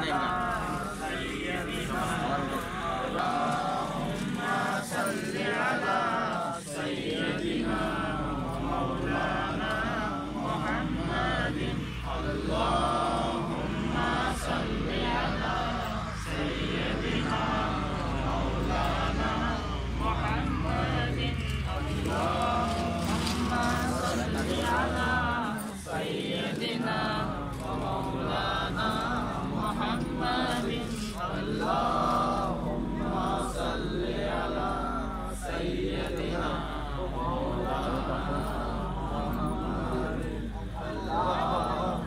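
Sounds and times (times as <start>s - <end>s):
group of voices chanting: 0.0s - 42.0s.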